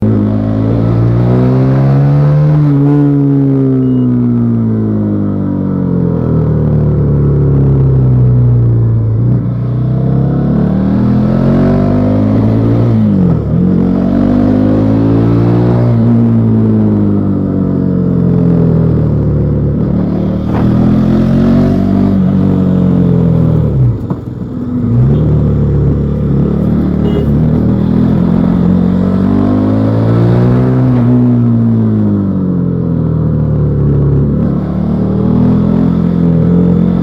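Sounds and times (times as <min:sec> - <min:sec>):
motorcycle engine revving: 0:05.8 - 0:37.0.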